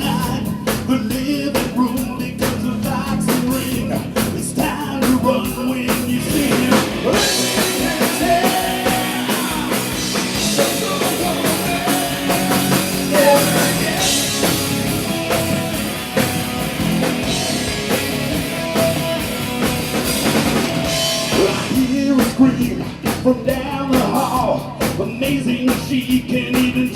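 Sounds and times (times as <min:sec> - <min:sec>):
live rock band playing: 0:00.0 - 0:26.9.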